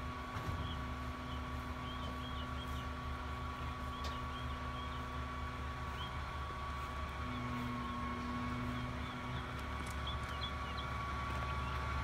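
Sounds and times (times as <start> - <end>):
garbage truck engine idling: 0.0 - 12.0.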